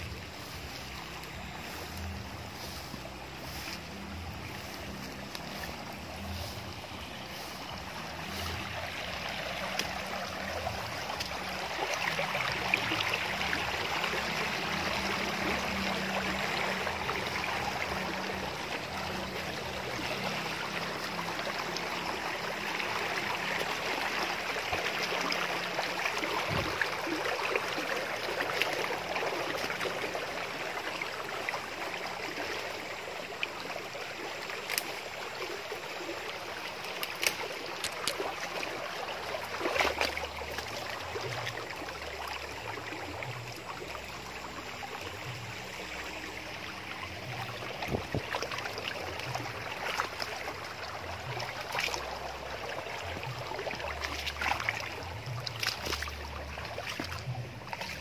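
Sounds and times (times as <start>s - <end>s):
stream rushing over stones: 0.0s - 58.0s.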